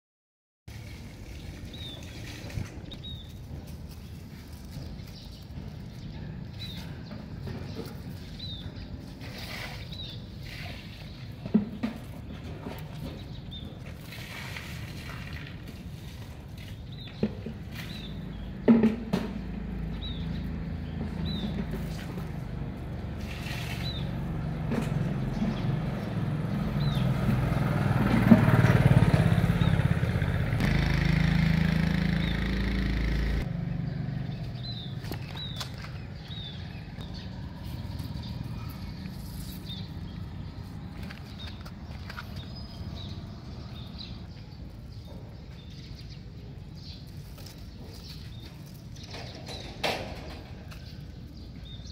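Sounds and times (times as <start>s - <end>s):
vehicle rumbling past: 0.7s - 51.9s.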